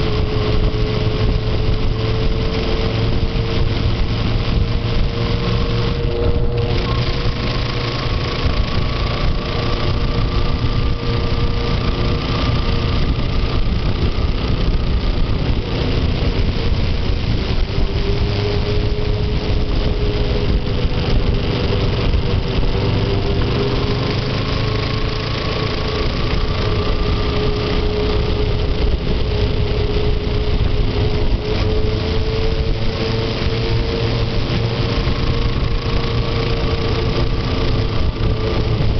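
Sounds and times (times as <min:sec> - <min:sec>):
motorcycle engine running: 0:00.0 - 0:38.9
steady rush of noise: 0:00.0 - 0:38.9.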